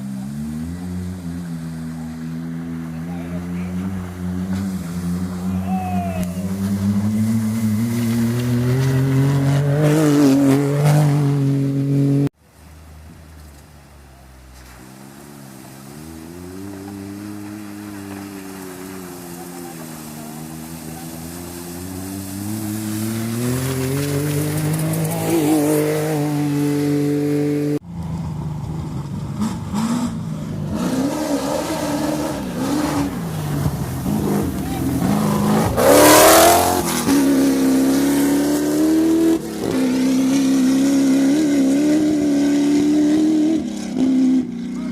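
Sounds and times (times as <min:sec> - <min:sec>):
racing engines revving: 0:00.0 - 0:12.3, 0:14.6 - 0:44.9.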